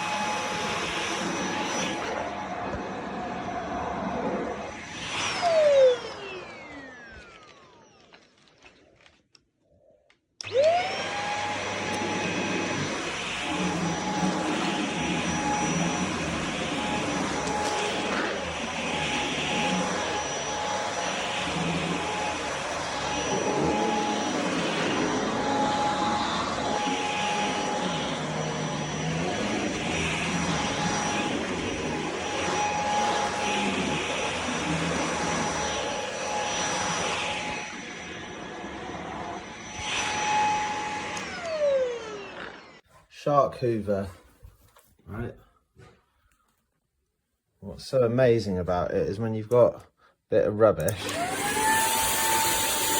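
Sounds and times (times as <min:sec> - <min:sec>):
vacuum cleaner motor whining: 0:00.0 - 0:09.2, 0:10.4 - 0:42.8, 0:50.8 - 0:52.9.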